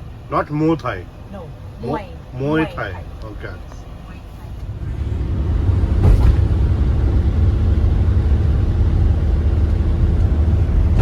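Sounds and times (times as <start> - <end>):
vehicle road and engine rumble: 0.0 - 11.0.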